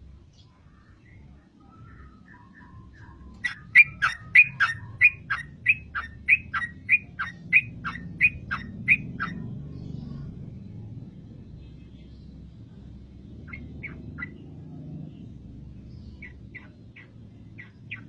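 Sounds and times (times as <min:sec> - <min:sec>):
bulbul singing: 0:00.0 - 0:18.0
low hum: 0:00.0 - 0:18.0.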